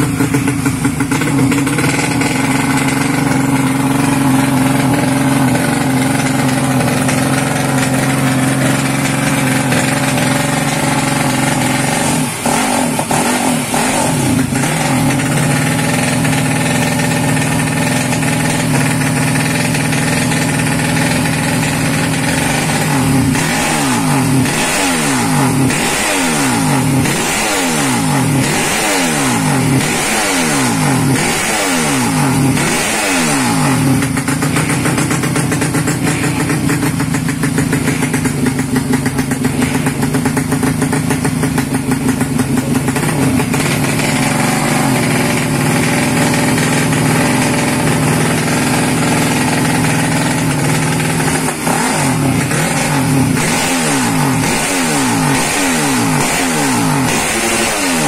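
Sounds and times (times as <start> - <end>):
dirt bike engine idling and revving: 0.0 - 58.0.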